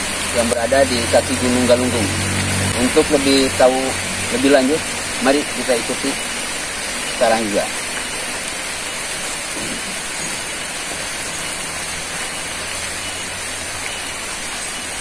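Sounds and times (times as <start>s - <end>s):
rushing hiss: 0.0s - 15.0s.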